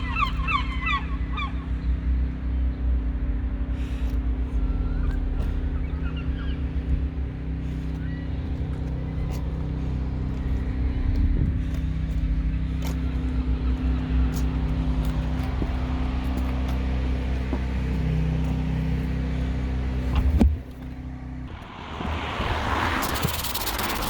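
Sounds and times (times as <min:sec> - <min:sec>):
pressure washer engine humming: 0:01.8 - 0:24.0.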